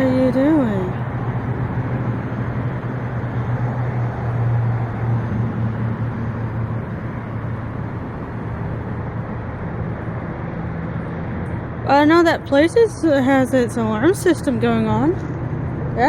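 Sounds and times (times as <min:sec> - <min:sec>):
car engine idling: 0:00.0 - 0:16.0
outdoor background noise: 0:00.0 - 0:16.0.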